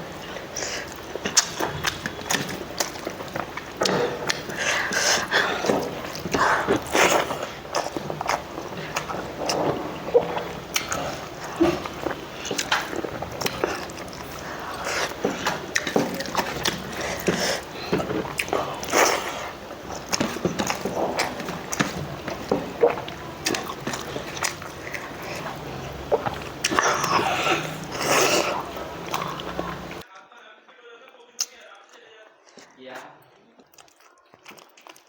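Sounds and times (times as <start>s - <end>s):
person chewing with wet mouth clicks: 0.2s - 30.1s, 31.4s - 35.0s.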